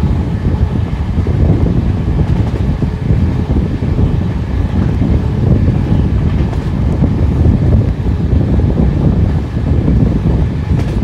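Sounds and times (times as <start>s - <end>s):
train rumbling on track: 0.0s - 11.0s
wind buffeting microphone: 0.0s - 11.0s.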